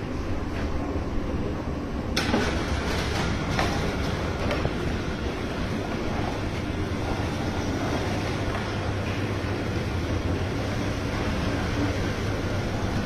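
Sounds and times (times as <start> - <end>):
oil mill rumbling: 0.0 - 13.0.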